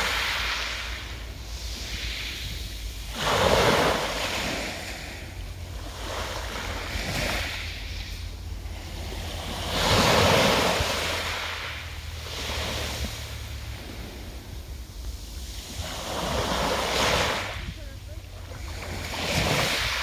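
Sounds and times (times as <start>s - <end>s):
waves washing on pebble beach: 0.0s - 20.0s.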